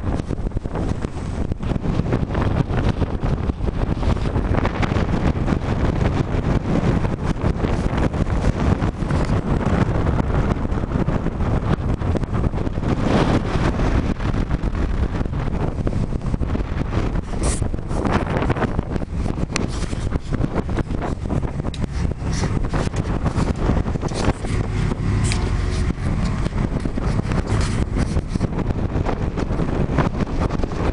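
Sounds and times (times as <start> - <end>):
wind blowing across microphone: 0.0 - 30.9.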